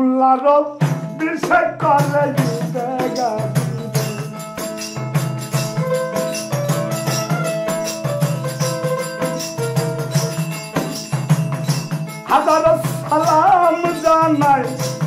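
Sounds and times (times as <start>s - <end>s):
jingling hand percussion: 0.8s - 15.0s
melodic instrument line: 2.4s - 15.0s.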